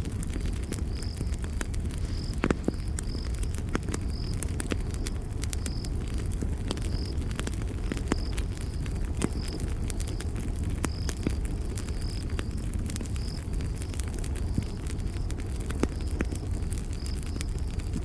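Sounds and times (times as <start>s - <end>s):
campfire crackling and popping: 0.0s - 18.0s
low rumble of burning wood: 0.0s - 18.0s.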